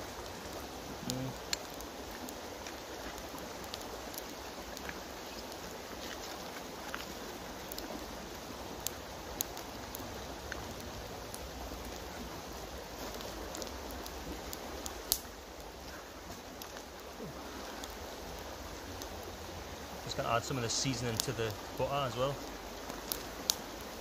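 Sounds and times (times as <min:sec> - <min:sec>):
river running over stones: 0:00.0 - 0:24.0.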